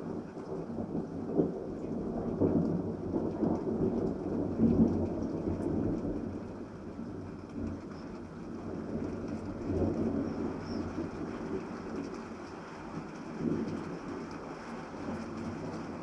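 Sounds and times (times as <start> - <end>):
rain falling: 0.0 - 16.0
thunder rumbling: 0.0 - 16.0.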